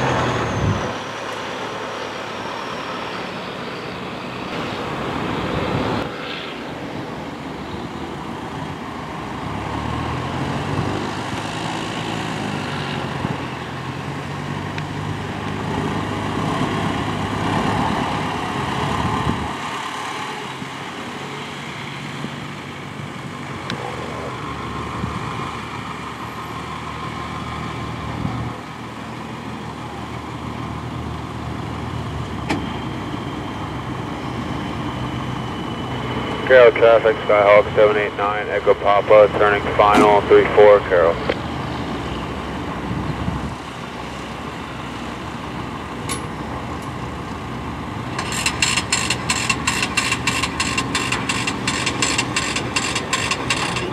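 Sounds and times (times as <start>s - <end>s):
light aircraft engine and propeller: 0.0s - 53.9s.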